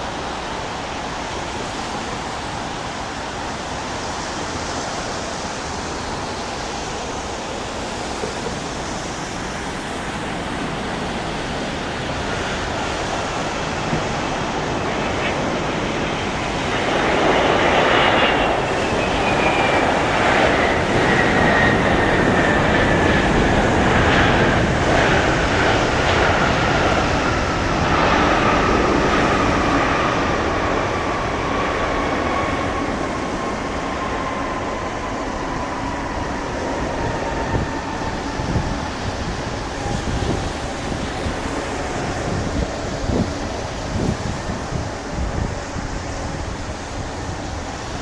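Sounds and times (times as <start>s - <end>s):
jet engines roaring and whining: 0.0s - 48.0s.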